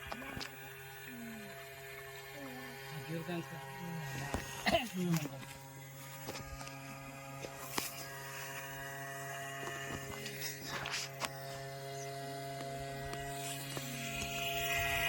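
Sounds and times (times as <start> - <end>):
small electric motor humming: 0.0 - 15.0.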